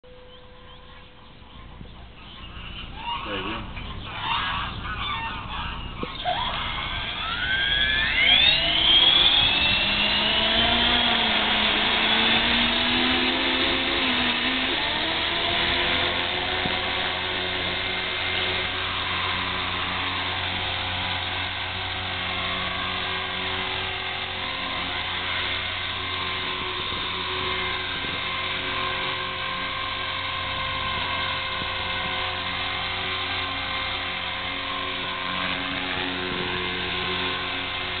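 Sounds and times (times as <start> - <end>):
rotor hum: 0.0 - 38.0
rc helicopter motor whine: 0.1 - 38.0.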